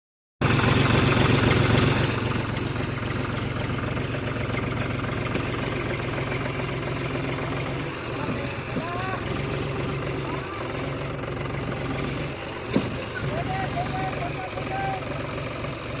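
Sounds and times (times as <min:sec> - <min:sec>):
tractor diesel engine running: 0:00.4 - 0:16.0.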